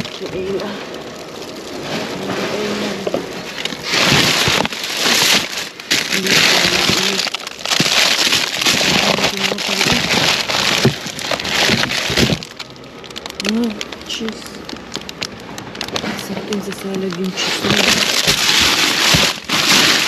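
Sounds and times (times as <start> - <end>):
plastic bags rustling and crinkling: 0.0 - 20.0.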